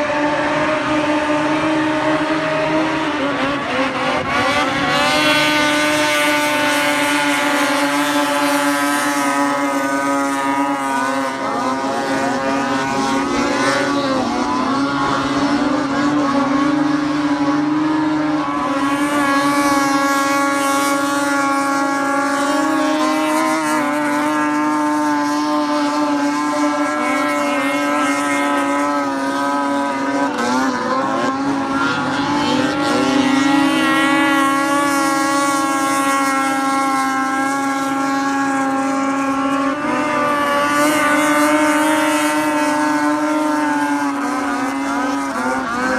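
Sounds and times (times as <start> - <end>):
snowmobile engines at high revs: 0.0 - 45.9.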